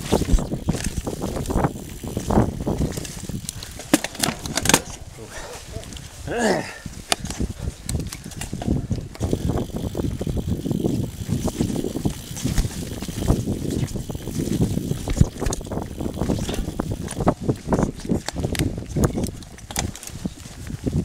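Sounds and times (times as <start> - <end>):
bike knocking and rattling: 0.0 - 21.0
wind rushing over microphone: 0.0 - 21.0.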